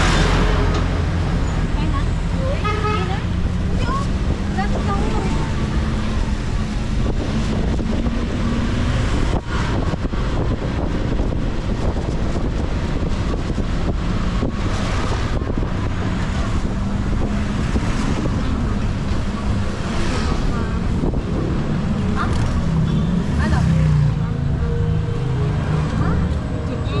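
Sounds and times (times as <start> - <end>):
wind buffeting microphone: 2.7 - 27.0.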